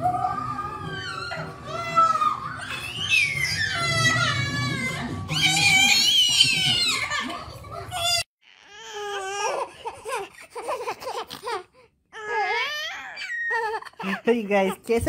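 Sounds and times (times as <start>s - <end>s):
babies squealing and laughing: 0.2s - 14.2s.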